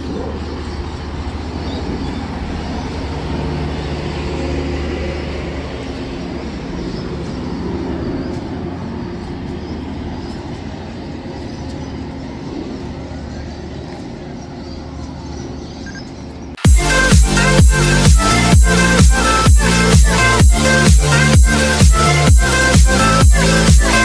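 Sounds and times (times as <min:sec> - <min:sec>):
diesel locomotive engine hum: 0:00.0 - 0:24.0.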